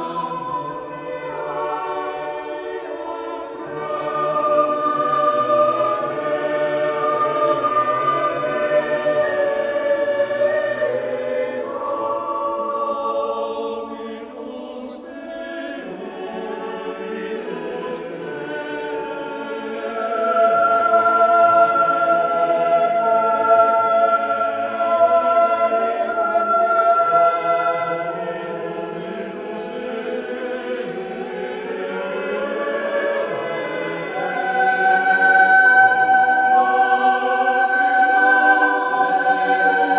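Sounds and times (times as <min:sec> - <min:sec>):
choir singing long held chords: 0:00.0 - 0:39.9.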